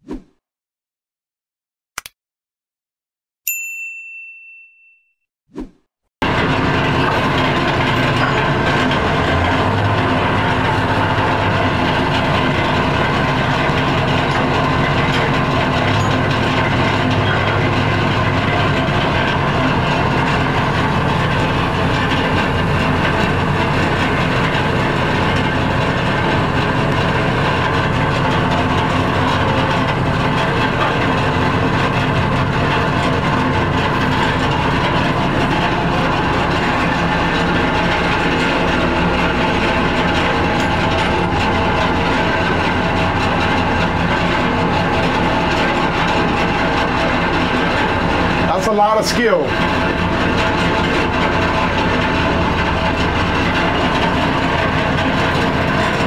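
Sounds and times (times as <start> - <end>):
low engine hum: 6.2 - 56.0
machinery rattling: 6.2 - 56.0.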